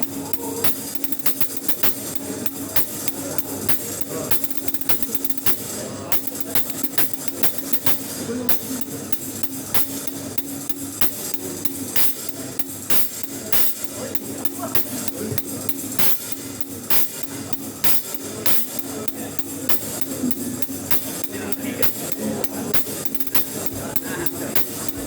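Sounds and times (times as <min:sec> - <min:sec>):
drum struck with a stick: 0:00.0 - 0:25.0.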